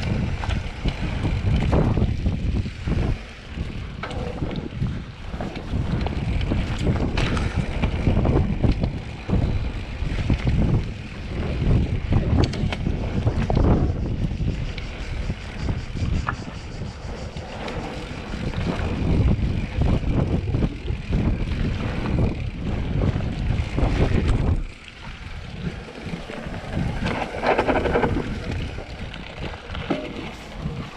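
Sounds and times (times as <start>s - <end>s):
bike rattling and knocking: 0.0s - 16.2s, 17.5s - 30.9s
wind buffeting microphone: 0.0s - 30.9s.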